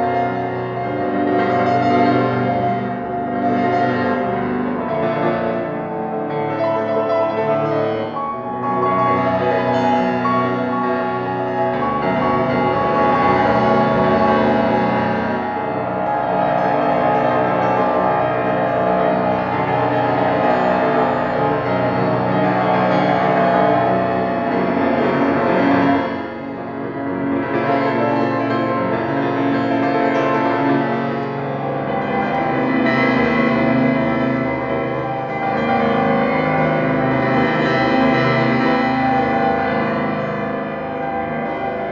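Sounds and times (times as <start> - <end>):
piano rapid repeated notes: 0.0 - 41.9.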